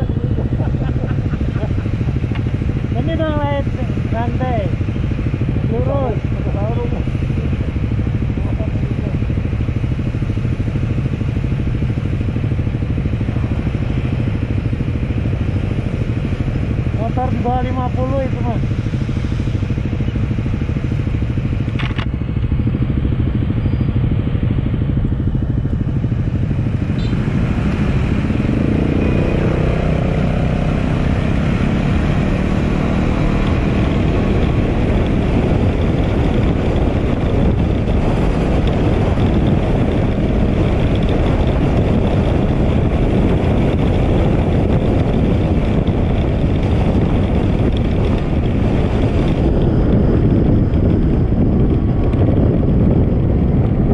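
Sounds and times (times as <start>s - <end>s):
motorcycle engine accelerating: 0.0s - 53.9s
wind rushing over microphone: 0.0s - 53.9s.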